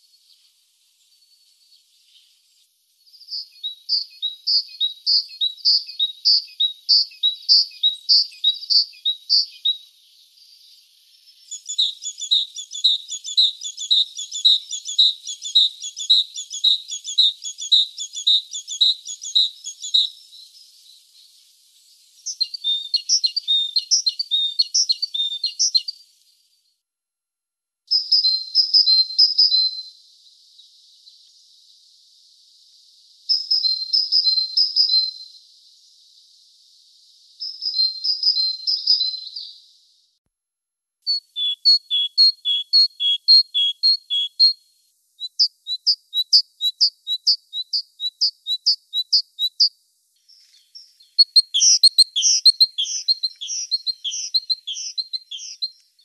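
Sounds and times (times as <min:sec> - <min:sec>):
great tit singing: 0:03.1 - 0:26.1, 0:27.9 - 0:39.7, 0:41.1 - 0:56.0.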